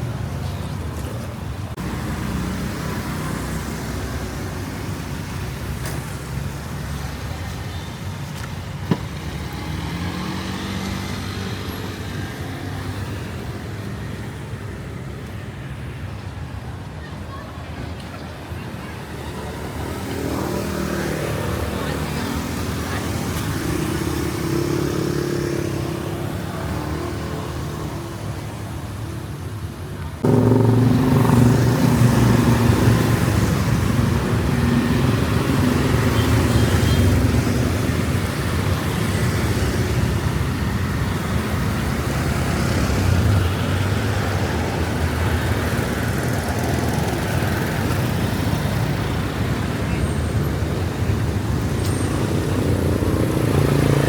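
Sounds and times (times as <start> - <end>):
car engines passing: 0.0 - 54.0
motorbike engines passing: 0.0 - 54.0.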